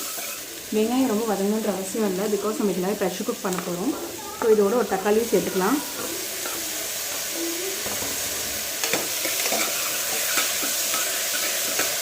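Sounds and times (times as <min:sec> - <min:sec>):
onion and tomato sizzling in oil: 0:00.0 - 0:12.0.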